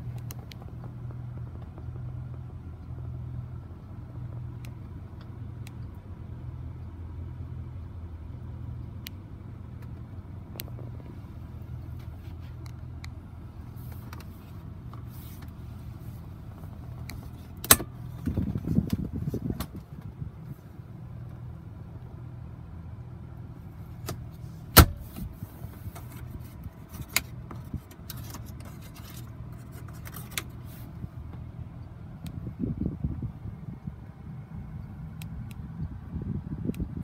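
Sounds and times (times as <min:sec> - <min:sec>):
engine idle hum: 0:00.0 - 0:37.0.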